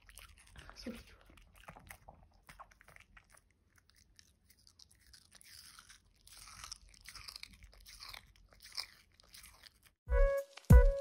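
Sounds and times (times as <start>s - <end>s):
dog crunching watermelon: 0.0s - 10.7s.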